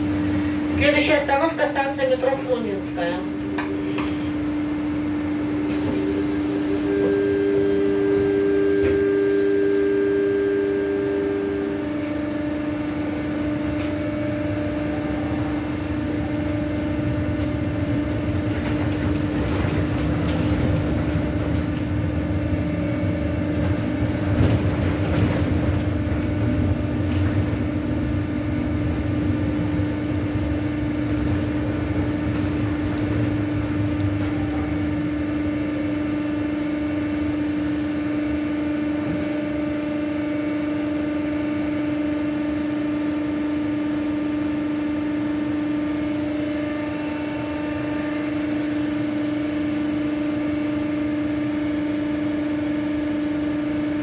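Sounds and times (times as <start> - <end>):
electric bus hum: 0.0 - 54.0.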